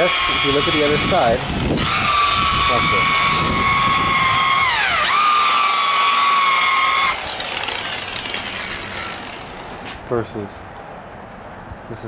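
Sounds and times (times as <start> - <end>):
electric buffer whining: 0.0 - 9.9.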